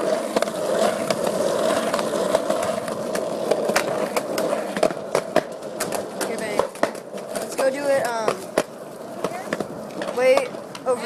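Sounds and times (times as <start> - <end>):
wheels rolling over rough pavement: 0.0 - 11.0.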